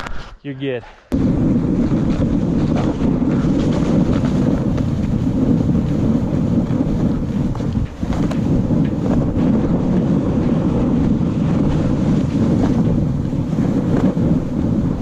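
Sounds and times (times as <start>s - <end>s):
wind buffeting microphone: 1.1s - 15.0s
sled scraping over snow: 1.2s - 15.0s.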